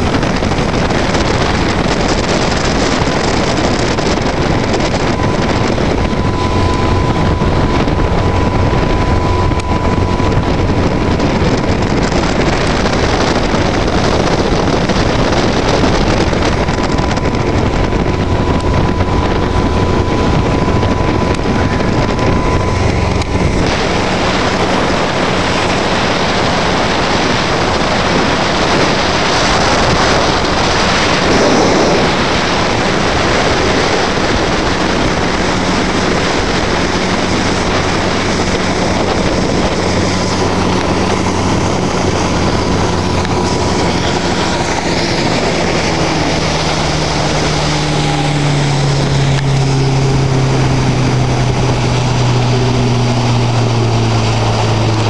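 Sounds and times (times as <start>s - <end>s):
motorboat engine drone: 0.0s - 55.0s
wind and water rushing: 0.0s - 55.0s.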